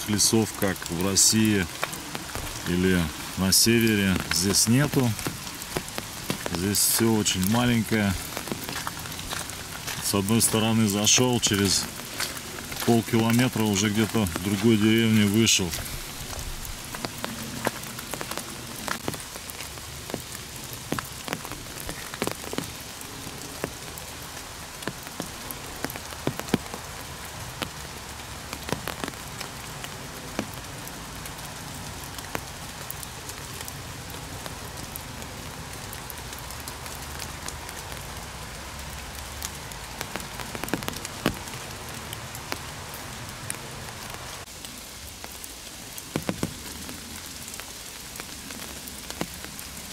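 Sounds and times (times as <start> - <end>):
rain falling on leaves: 0.0 - 49.9.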